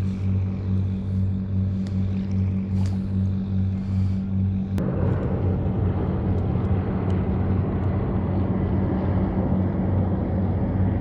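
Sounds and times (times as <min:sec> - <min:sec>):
engine drone with hum: 0:00.0 - 0:11.0.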